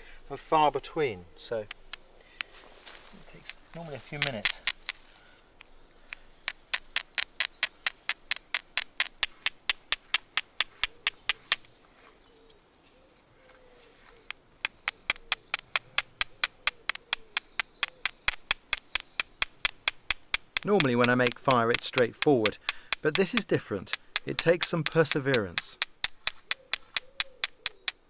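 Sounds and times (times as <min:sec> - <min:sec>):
flint striking pyrites clicks: 0:01.4 - 0:02.6, 0:03.4 - 0:11.7, 0:14.3 - 0:28.0.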